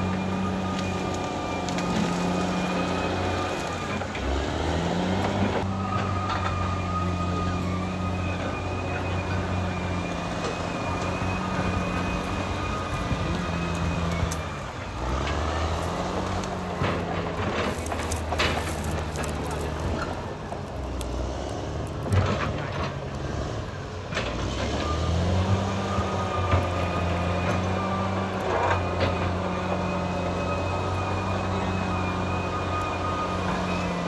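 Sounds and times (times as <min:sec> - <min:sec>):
bulldozer diesel engine working: 0:00.0 - 0:34.0.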